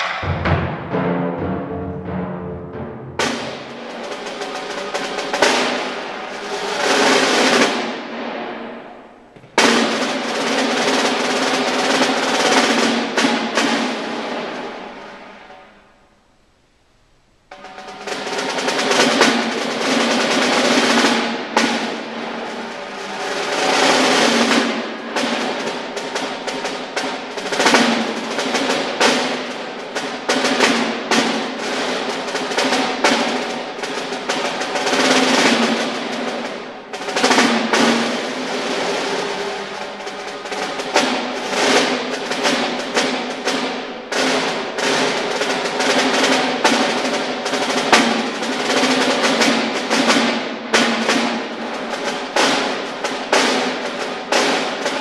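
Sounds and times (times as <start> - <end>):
snare drum rolls and strokes: 0.0 - 16.0, 17.4 - 55.0.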